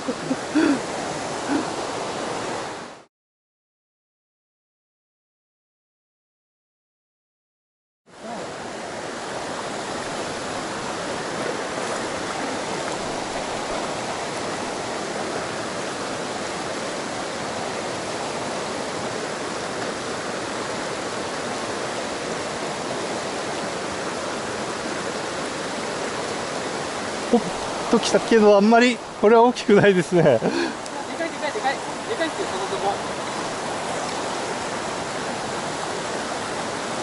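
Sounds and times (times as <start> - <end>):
stream rushing over rocks: 0.0 - 3.1, 8.1 - 37.0.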